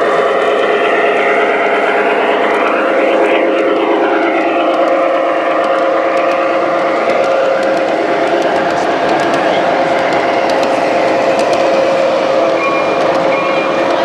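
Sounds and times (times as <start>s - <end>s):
model train motor hum: 0.0s - 14.0s
train whooshing past: 0.0s - 14.0s.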